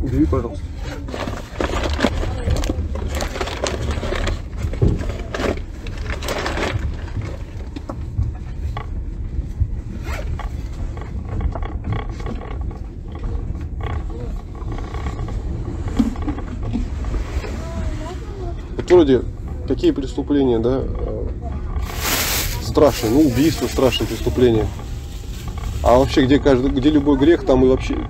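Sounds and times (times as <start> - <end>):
train rumbling: 0.0 - 28.0
rustling and scraping: 0.1 - 28.0.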